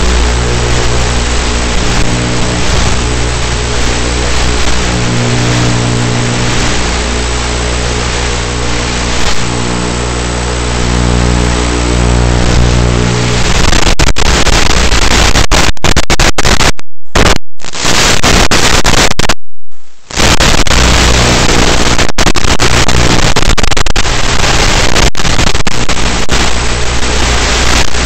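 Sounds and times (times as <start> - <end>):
propeller motor hum: 0.0 - 15.5, 19.6 - 28.0
harsh static hiss: 0.0 - 28.0.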